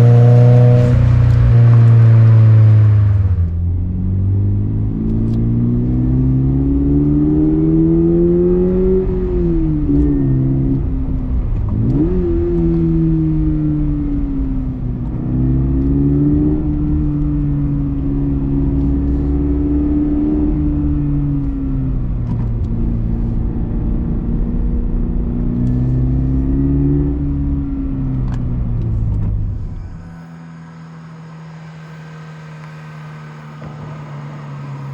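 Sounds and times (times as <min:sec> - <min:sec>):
car exhaust note: 0:00.0 - 0:34.9.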